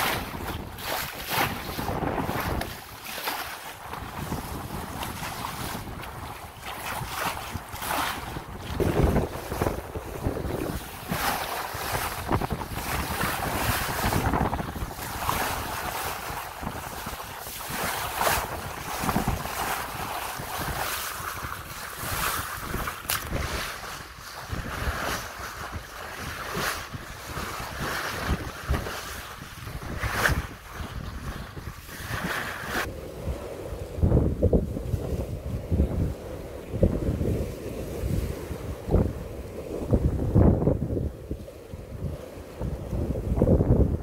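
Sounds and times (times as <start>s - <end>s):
water rushing along boat hull: 0.0s - 44.0s
wind buffeting microphone: 0.0s - 44.0s.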